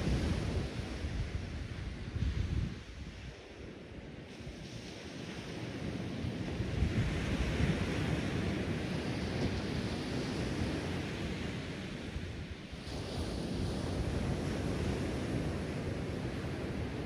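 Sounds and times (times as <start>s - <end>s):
waves washing up a beach: 0.0s - 17.0s
wind buffeting microphone: 0.0s - 17.0s.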